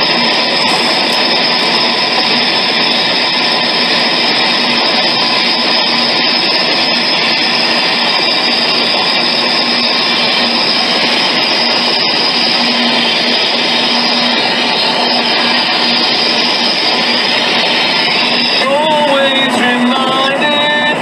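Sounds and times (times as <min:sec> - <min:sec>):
electronic noise drone: 0:00.0 - 0:21.0
thin high tone: 0:00.0 - 0:21.0.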